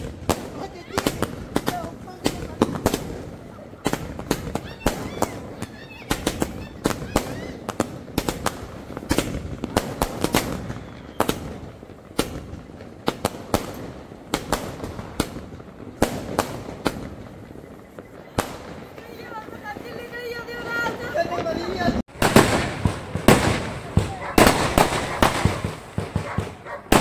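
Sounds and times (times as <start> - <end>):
firecrackers banging: 0.0 - 27.0.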